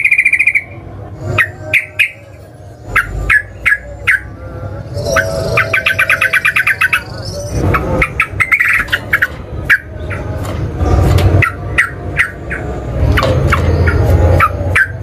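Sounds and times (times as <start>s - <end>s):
bird chirping and chattering: 0.0s - 10.4s, 11.3s - 15.0s.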